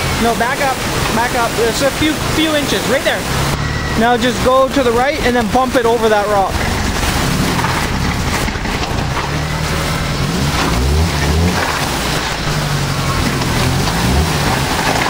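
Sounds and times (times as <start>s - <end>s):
off-road vehicle engine under load: 0.0s - 15.0s.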